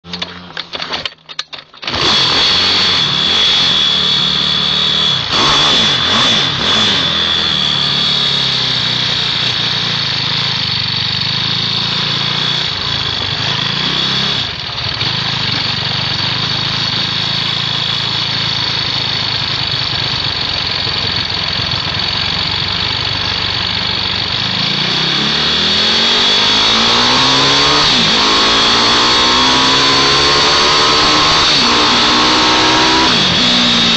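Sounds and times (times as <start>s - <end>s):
mini bike engines buzzing: 0.1s - 33.9s.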